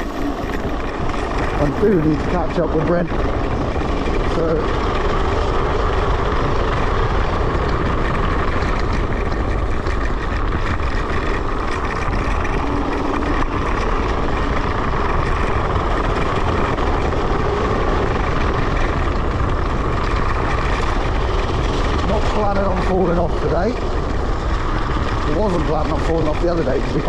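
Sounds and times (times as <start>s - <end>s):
electric scooter rolling noise: 0.0s - 27.0s
wind rushing: 0.0s - 27.0s.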